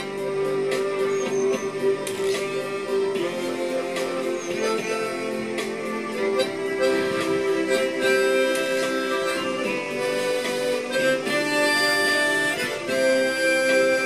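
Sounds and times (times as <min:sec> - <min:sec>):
backing accompaniment: 0:00.0 - 0:14.0
harmonica melody: 0:00.0 - 0:14.0.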